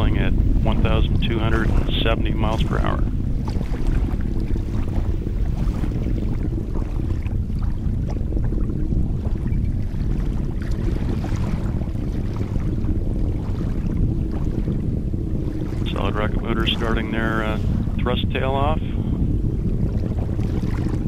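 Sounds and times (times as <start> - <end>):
distant rocket engine roar: 0.0 - 21.0.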